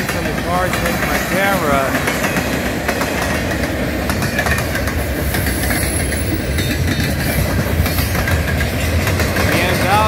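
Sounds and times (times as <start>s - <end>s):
freight train rumbling past: 0.0s - 10.0s
wheels clacking over rail joints: 0.0s - 10.0s.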